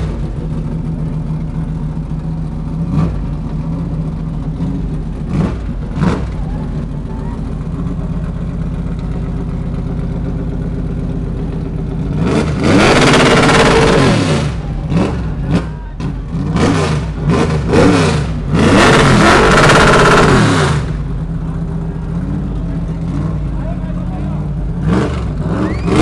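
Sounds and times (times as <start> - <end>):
race car engine revving: 0.0 - 8.4, 11.9 - 26.0.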